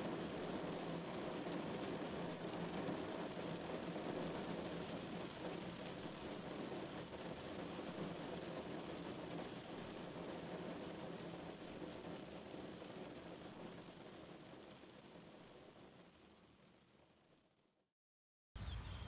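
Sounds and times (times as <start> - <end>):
rain on a car roof: 0.0 - 17.7.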